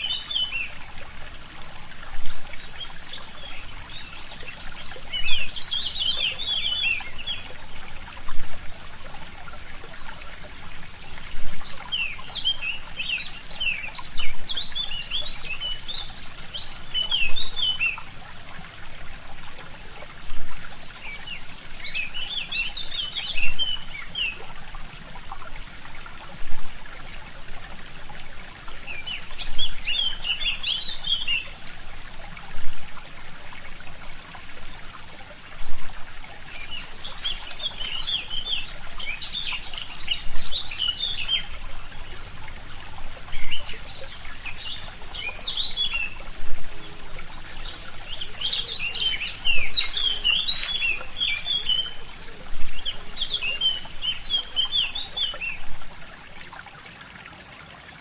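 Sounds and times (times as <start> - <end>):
songbirds chirping: 0.0 - 18.2, 27.5 - 56.6
stream trickling: 0.0 - 58.0.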